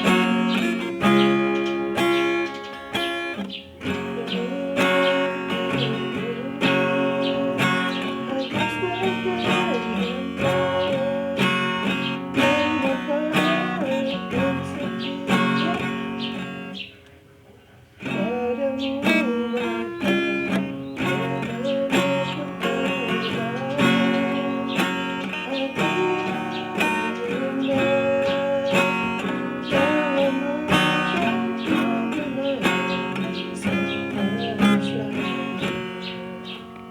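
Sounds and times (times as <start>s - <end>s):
acoustic guitar music: 0.0s - 36.9s.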